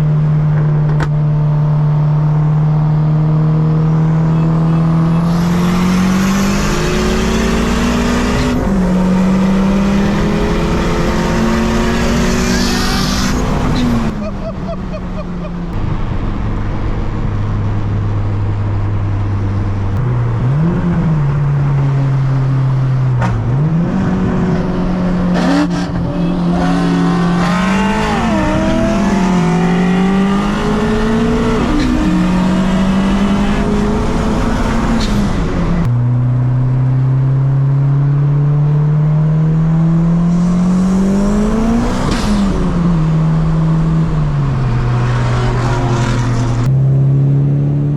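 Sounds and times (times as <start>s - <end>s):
car engine accelerating through gears: 0.0s - 47.9s.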